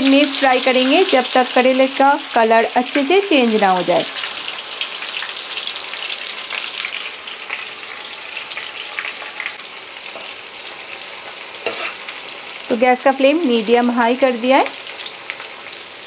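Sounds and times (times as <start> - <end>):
deep-frying sizzle with pops: 0.0 - 16.0.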